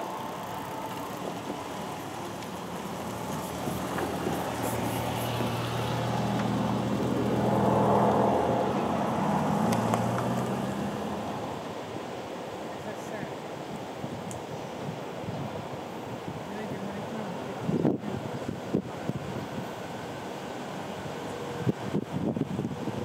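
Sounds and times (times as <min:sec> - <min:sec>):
train passing rumble: 0:00.0 - 0:23.0.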